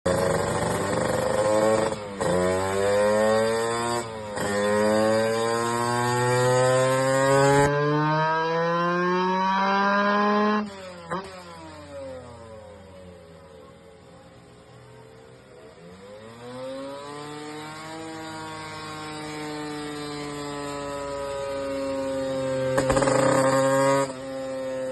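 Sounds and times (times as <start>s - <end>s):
two-stroke motorcycle engine revving: 0.1s - 14.4s, 15.1s - 24.9s.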